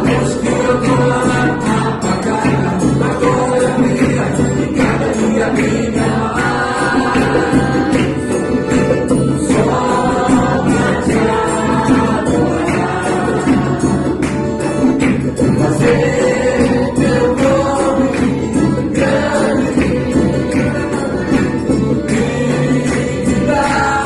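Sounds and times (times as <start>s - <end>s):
instruments playing: 0.0s - 24.0s
percussion striking: 0.0s - 24.0s
voices singing together: 0.0s - 24.0s.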